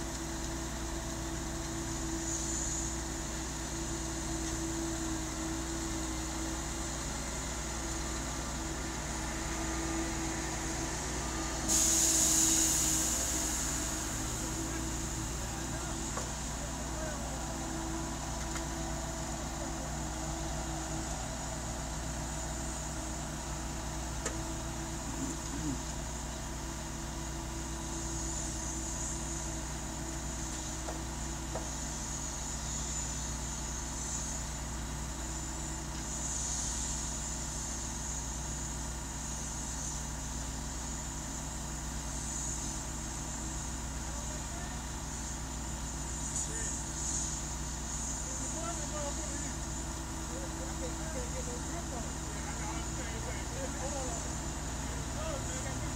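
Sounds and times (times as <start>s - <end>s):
truck engine running: 0.0s - 55.9s
high hiss: 1.2s - 55.9s.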